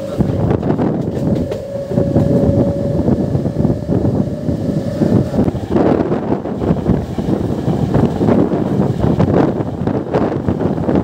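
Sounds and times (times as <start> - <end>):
electric train running: 0.0 - 11.0
wind buffeting microphone: 0.0 - 11.0.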